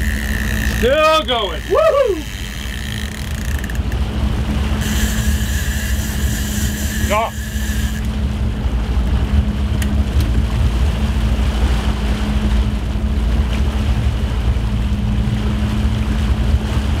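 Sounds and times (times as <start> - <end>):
boat engine droning: 0.0 - 17.0
rushing wake water: 0.0 - 17.0.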